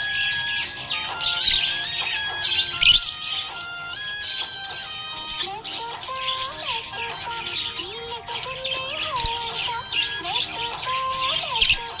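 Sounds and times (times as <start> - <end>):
budgerigar chirping and warbling: 0.0 - 12.0.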